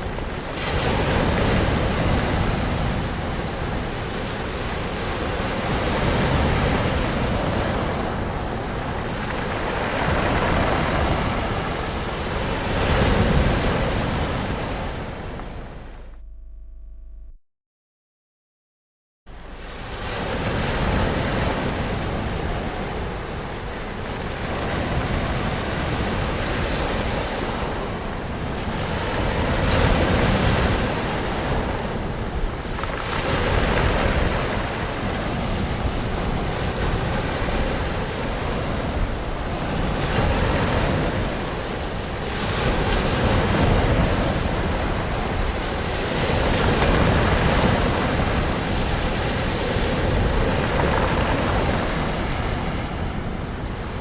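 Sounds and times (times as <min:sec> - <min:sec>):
ocean waves breaking: 0:00.0 - 0:16.2, 0:19.3 - 0:54.0.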